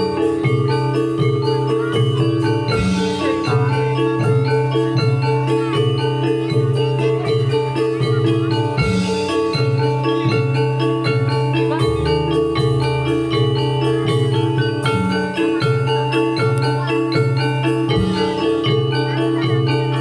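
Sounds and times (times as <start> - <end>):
gamelan music over loudspeakers: 0.0 - 20.0.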